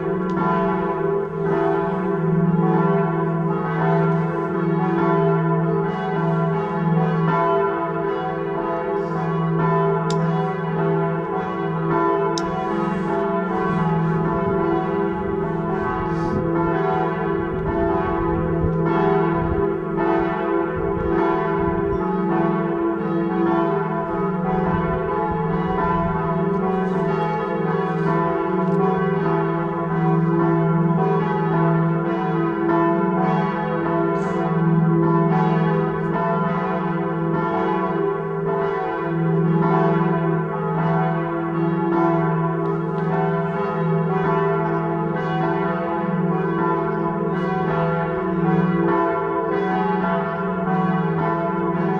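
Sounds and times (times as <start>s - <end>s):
church bells pealing: 0.0s - 51.9s.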